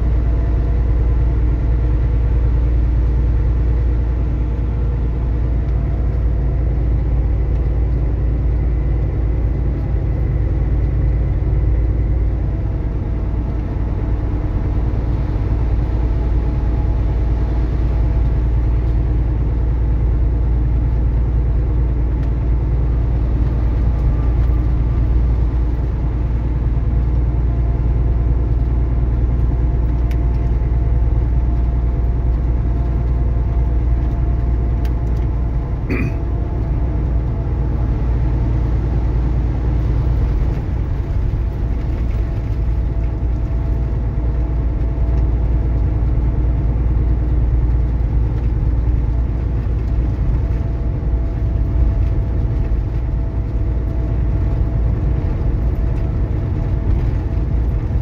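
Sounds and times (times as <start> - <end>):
road noise: 0.0 - 58.0
truck diesel engine rumble: 0.0 - 58.0.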